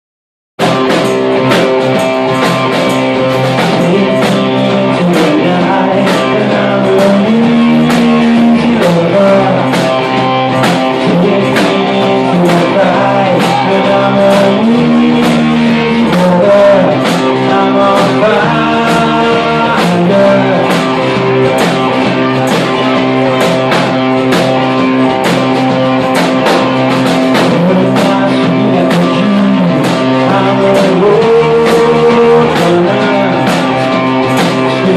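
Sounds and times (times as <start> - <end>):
rock band playing: 0.6 - 34.9.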